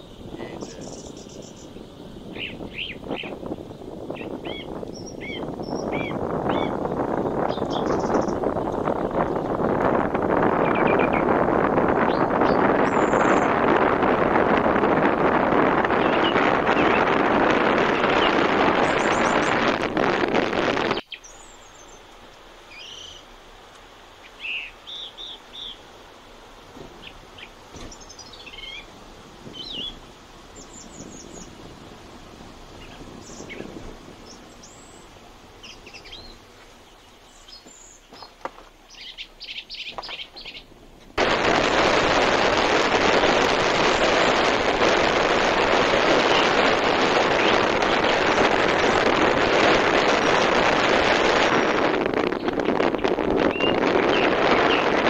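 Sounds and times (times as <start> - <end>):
birds chirping: 0.0 - 14.6, 15.2 - 20.2, 20.8 - 23.3, 24.2 - 25.9, 26.9 - 55.0
wind rush and vehicle noise: 0.0 - 55.0.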